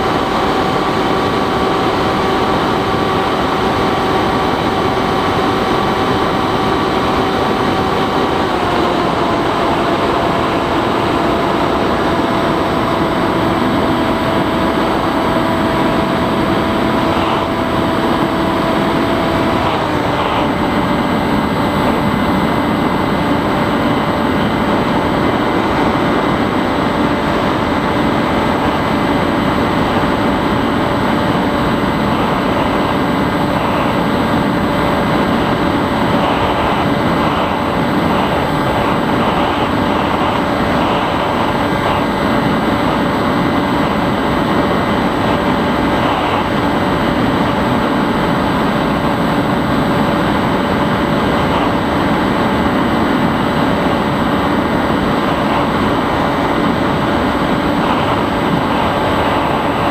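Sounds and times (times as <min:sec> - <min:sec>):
electric motor and propeller: 0:00.0 - 0:59.9
rushing air: 0:00.0 - 0:59.9
thin steady whine: 0:00.0 - 0:59.9.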